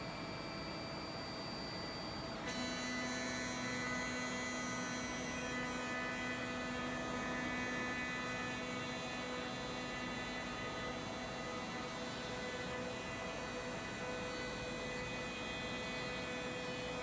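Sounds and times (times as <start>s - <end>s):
printer stepper motors whining: 2.4s - 17.0s.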